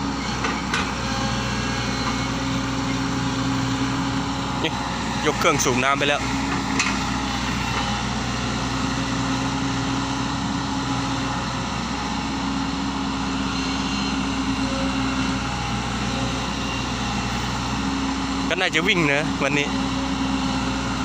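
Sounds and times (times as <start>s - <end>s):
heavy engine droning: 0.0s - 21.0s.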